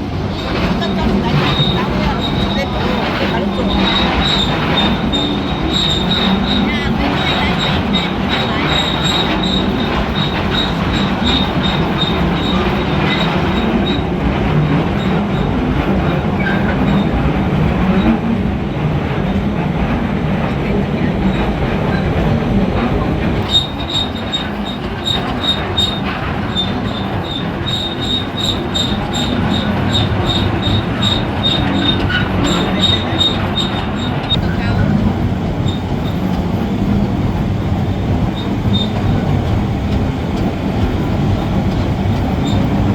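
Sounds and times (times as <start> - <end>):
train running: 0.0 - 42.9.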